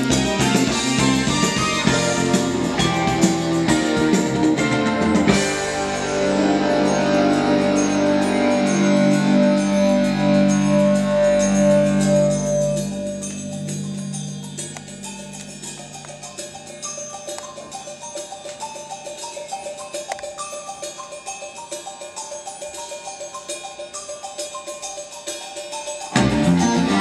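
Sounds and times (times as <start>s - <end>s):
held music chords: 0.0s - 22.1s, 26.1s - 27.0s
drums: 0.0s - 27.0s.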